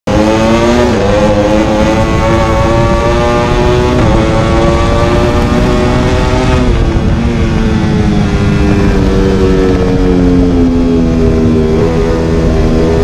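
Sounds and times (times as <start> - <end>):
motorcycle engine accelerating: 0.1 - 13.0
wind rush on microphone: 0.1 - 13.0.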